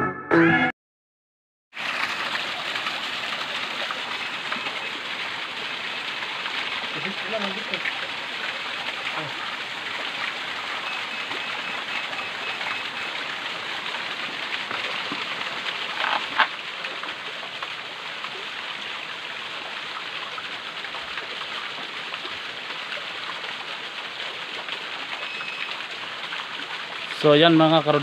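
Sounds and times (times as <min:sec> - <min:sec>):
flowing stream water: 0:01.7 - 0:28.0.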